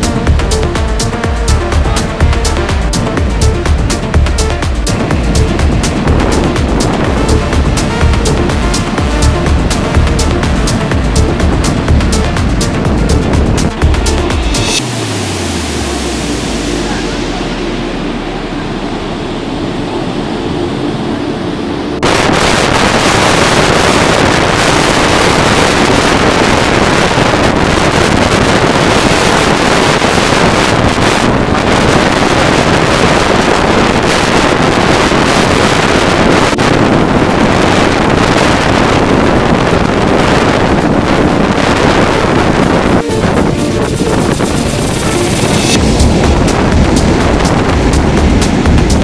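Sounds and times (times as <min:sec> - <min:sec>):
rough sea and surf: 0:00.0 - 0:49.0
wind buffeting microphone: 0:00.0 - 0:49.0.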